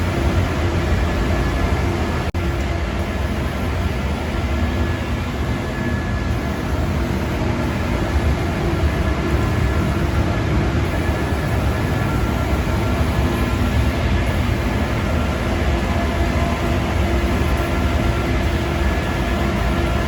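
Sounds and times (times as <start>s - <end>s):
extraction fans rushing air: 0.0s - 20.0s.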